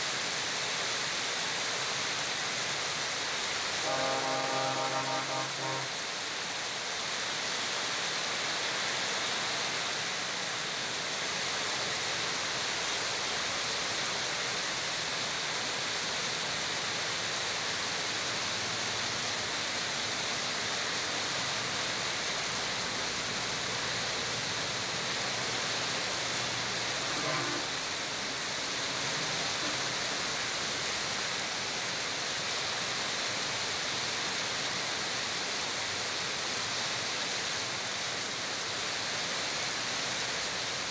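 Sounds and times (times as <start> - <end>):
heavy rain on a flooded road: 0.0 - 40.9.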